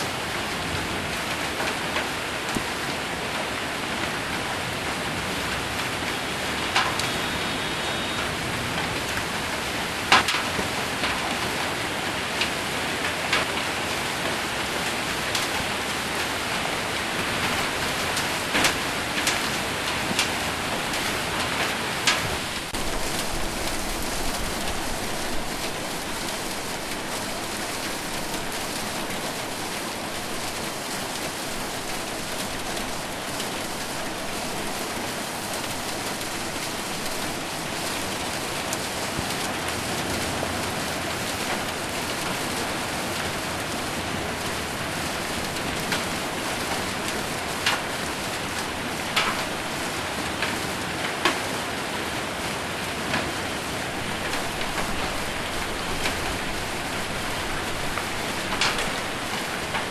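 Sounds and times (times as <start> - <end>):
heavy rain on metal roof: 0.0 - 59.9
hailstones knocking on roof: 5.6 - 7.6, 8.2 - 59.9.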